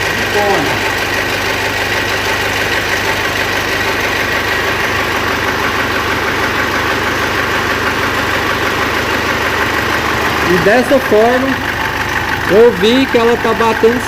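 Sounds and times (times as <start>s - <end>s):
diesel engine idling: 0.0s - 14.0s
engine knocking: 0.0s - 14.0s.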